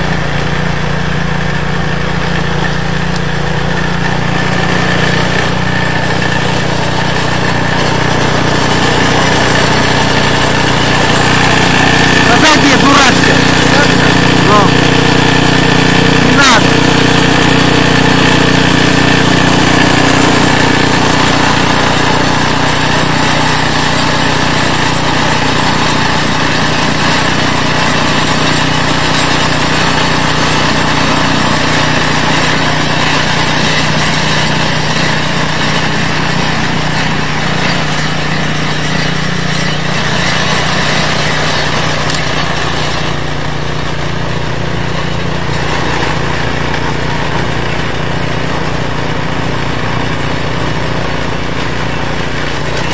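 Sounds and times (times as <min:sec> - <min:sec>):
auger driving into snow: 0:00.0 - 0:52.9
snowblower engine running: 0:00.0 - 0:52.9.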